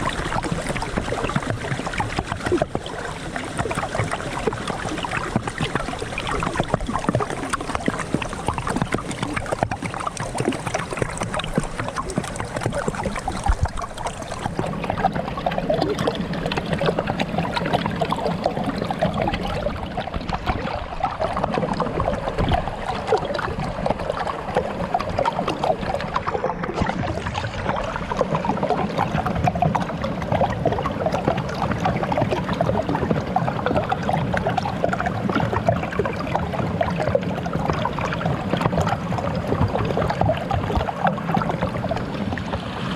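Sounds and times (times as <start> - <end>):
water gurgling under ice: 0.0 - 42.9.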